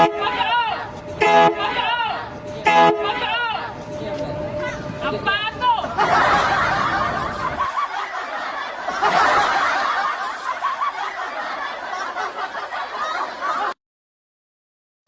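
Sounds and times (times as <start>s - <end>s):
people laughing: 0.0s - 13.8s.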